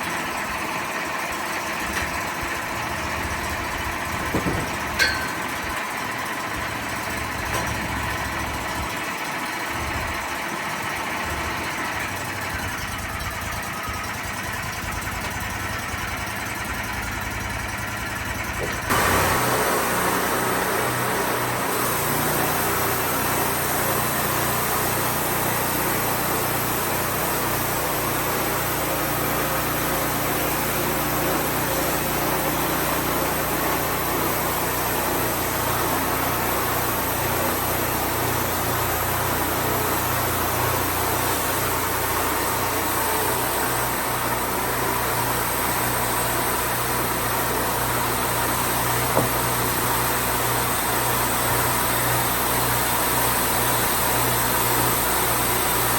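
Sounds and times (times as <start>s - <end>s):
band sawmill engine drone: 0.0s - 55.9s
sawmill hiss: 0.0s - 55.9s.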